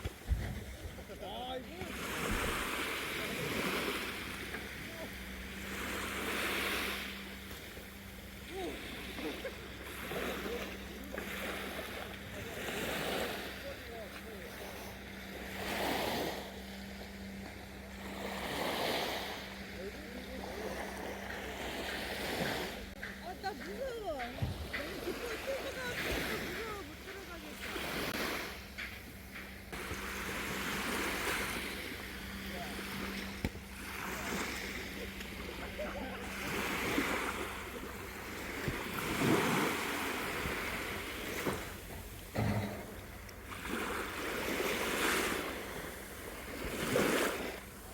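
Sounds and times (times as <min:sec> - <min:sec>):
sea waves washing in: 0:00.0 - 0:47.9.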